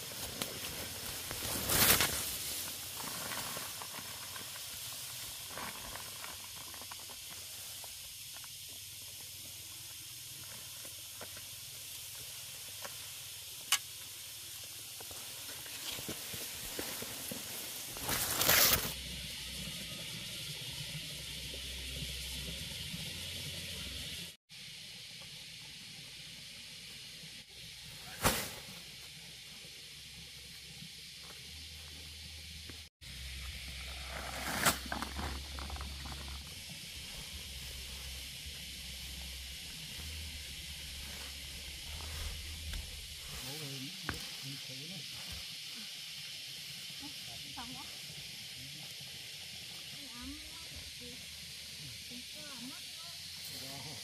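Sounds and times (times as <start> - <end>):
high outdoor hiss: 0.0 - 54.0.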